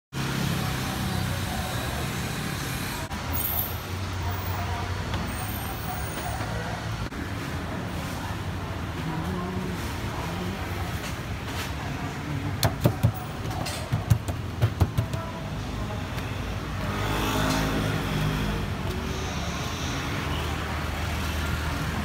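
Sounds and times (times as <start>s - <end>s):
street traffic noise: 0.1s - 22.0s.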